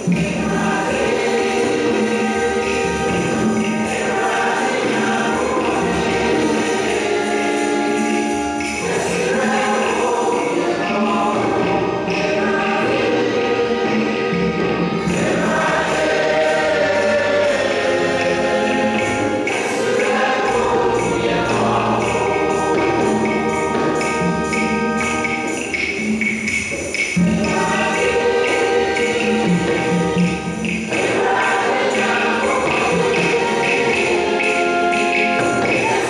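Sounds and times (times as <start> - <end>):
choir singing to music: 0.0 - 36.0
tambourine jingling: 0.0 - 36.0.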